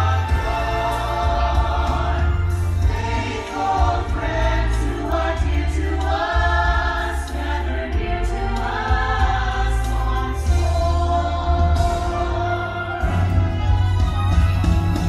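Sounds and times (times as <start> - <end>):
choir singing held notes: 0.0 - 14.0
loud music over sound system: 0.0 - 15.0.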